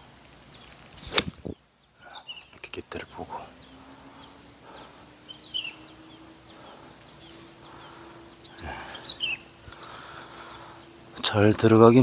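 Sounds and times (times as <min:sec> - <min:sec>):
birds chirping: 0:00.0 - 0:12.0
faint steady hum: 0:00.0 - 0:12.0.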